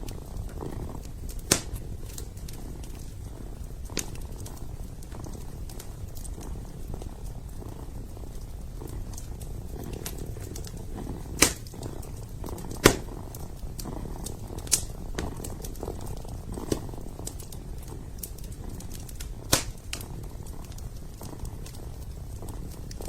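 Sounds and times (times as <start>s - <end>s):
kitten purring: 0.0s - 23.0s
wood fire crackling: 0.0s - 23.0s.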